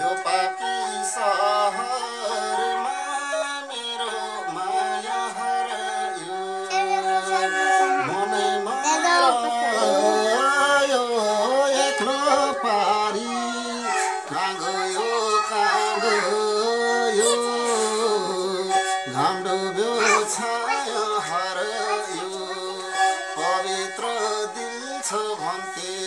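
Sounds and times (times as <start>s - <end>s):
bowed fiddle folk melody: 0.0s - 26.0s.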